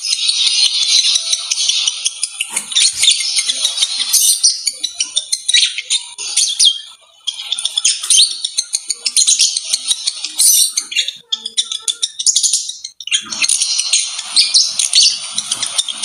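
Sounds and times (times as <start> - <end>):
lovebirds chattering: 0.0 - 16.0.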